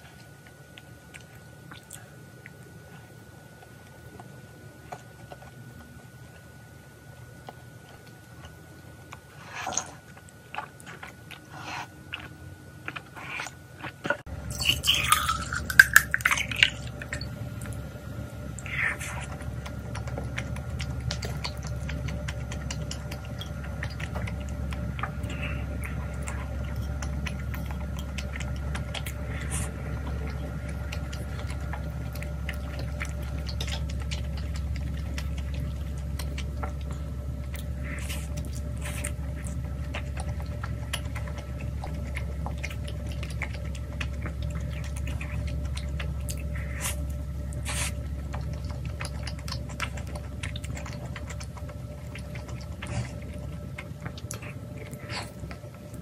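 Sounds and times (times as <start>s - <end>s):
chewing with mouth clicks: 0.0s - 56.0s
low hum: 0.0s - 56.0s.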